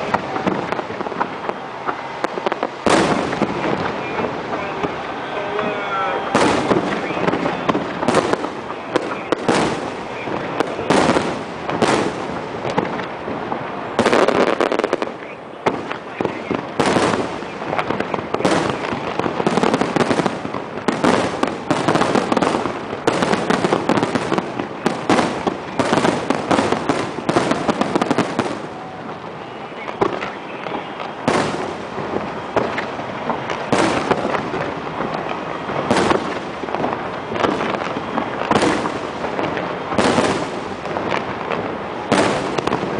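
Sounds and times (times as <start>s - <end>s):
fireworks booming: 0.0s - 42.9s
fireworks crackling: 0.0s - 42.9s.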